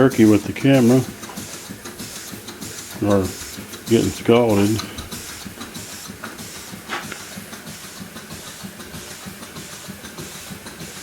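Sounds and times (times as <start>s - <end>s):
steam engine running: 0.0s - 11.0s
steam hissing: 0.0s - 11.0s.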